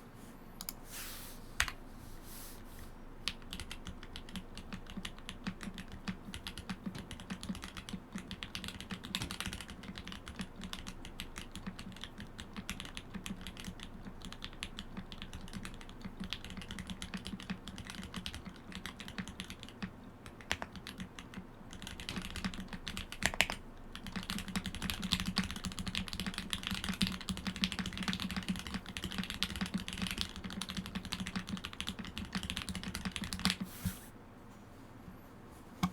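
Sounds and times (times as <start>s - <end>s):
mechanical keyboard typing: 3.3s - 33.6s.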